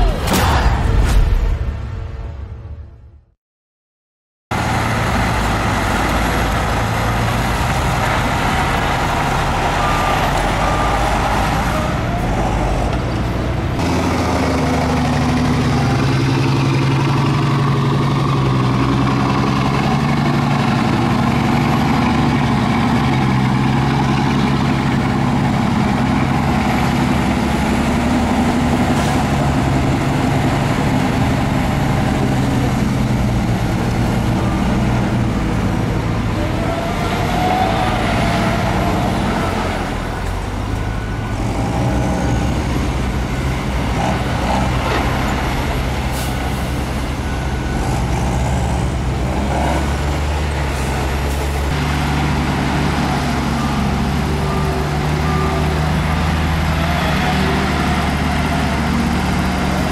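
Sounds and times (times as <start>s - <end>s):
heavy diesel machinery engine drone: 4.5s - 59.9s.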